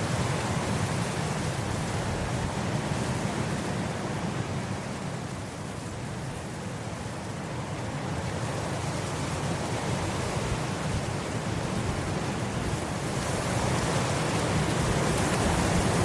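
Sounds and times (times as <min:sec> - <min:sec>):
wind blowing across grass: 0:00.0 - 0:16.0.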